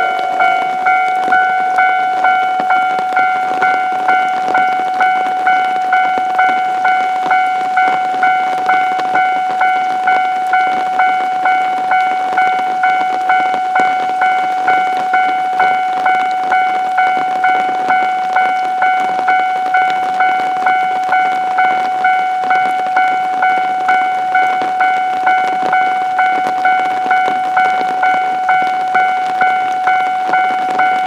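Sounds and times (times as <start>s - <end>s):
level-crossing warning bell ringing: 0.0s - 31.0s.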